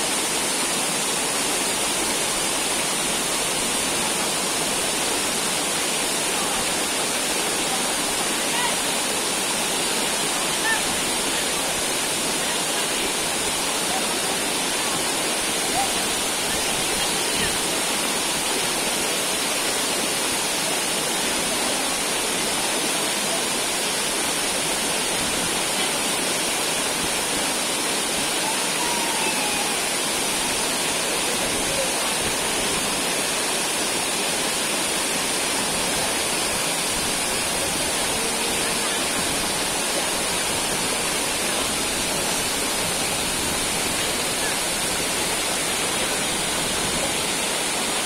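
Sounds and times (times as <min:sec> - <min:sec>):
waterfall and stream rushing: 0:00.0 - 0:48.0.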